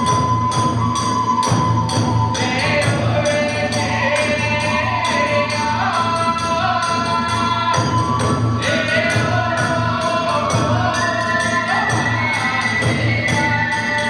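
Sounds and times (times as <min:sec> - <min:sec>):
drums: 0:00.0 - 0:14.0
hand cymbals clashing: 0:00.0 - 0:14.0.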